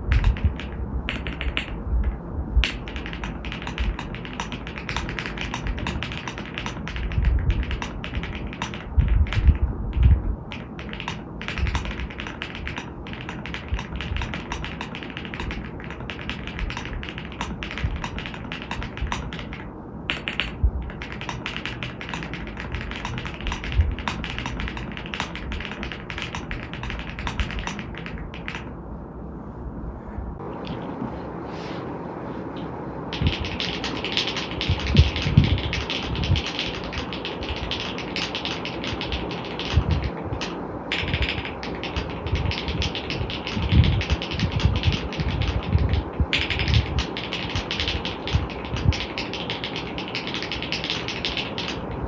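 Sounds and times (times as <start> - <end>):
fast typing on mechanical keyboard: 0.0 - 28.8, 33.1 - 52.0
heavier keystrokes: 0.0 - 28.8, 33.0 - 52.0.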